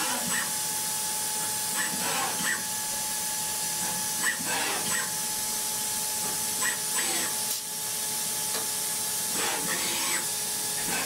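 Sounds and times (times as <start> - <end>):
milling machine whining: 0.0 - 11.0.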